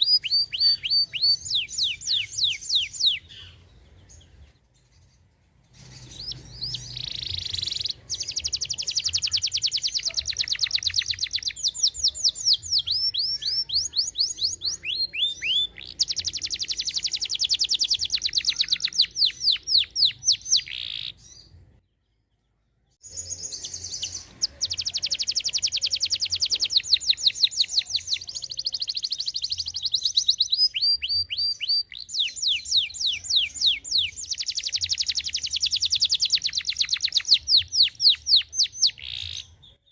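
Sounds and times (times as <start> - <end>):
canary singing trills: 0.0 - 22.1, 23.0 - 39.9.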